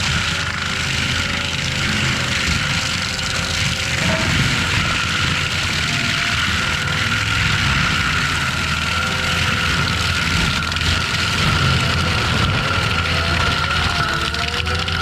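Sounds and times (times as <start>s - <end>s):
high whine of mulcher head: 0.0s - 15.0s
loader engine running: 0.0s - 15.0s.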